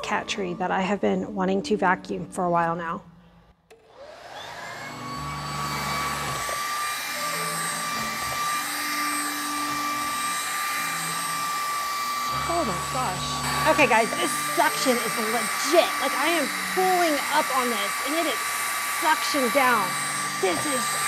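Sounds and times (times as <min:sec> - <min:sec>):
vacuum cleaner motor whine: 0:03.7 - 0:21.0.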